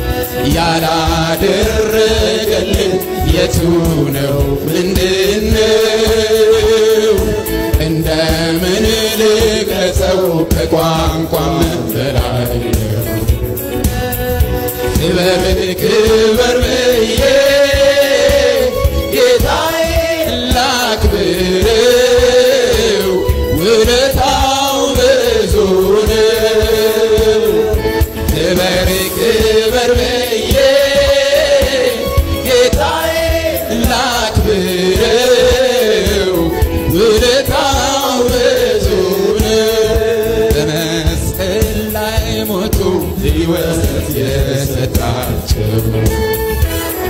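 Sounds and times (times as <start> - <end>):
man singing into microphone: 0.0 - 46.5
band accompaniment: 0.0 - 47.0
voices singing along: 0.0 - 47.0.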